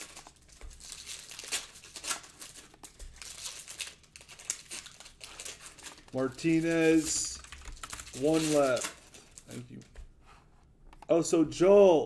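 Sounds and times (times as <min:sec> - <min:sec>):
wrapping crinkling and rustling: 0:00.0 - 0:09.9.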